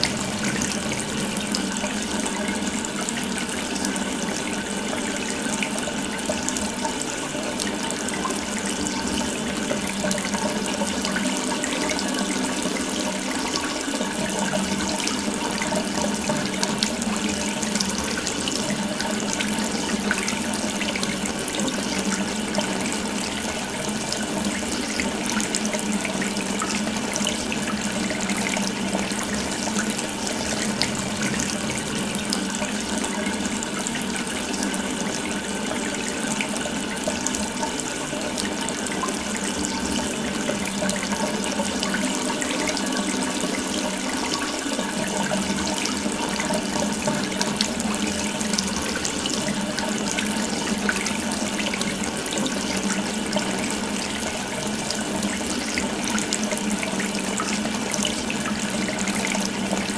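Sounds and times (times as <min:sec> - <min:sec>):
water running from tap: 0:00.0 - 0:59.9.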